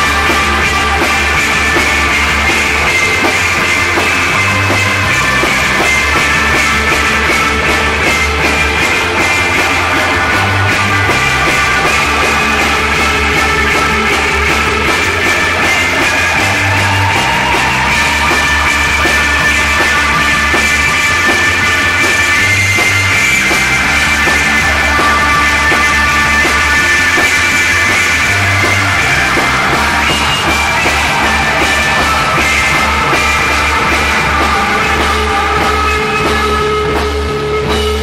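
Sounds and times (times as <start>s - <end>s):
bass notes: 0.0s - 38.0s
drum kit beat: 0.0s - 38.0s.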